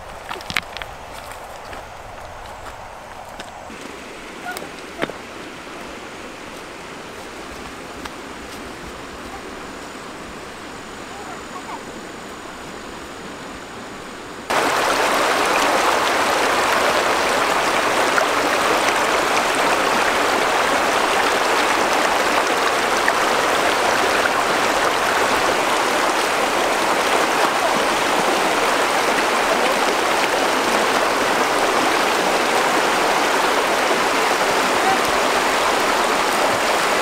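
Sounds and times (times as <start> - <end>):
stream rushing over stones: 0.0 - 10.7, 14.5 - 37.0.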